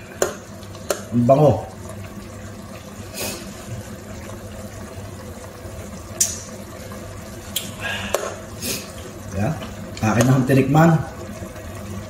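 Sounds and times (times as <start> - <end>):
sauce bubbling in pot: 0.0 - 12.0.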